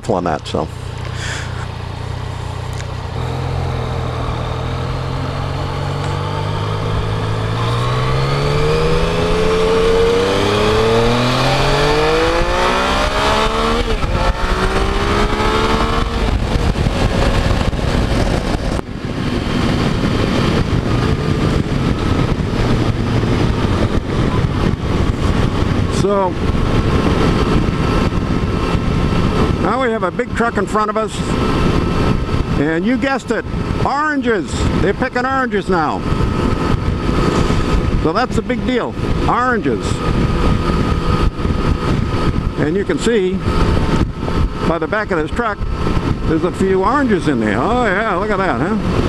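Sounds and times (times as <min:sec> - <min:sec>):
motorcycle engine accelerating: 0:00.0 - 0:49.0
wind noise on microphone: 0:03.1 - 0:49.0.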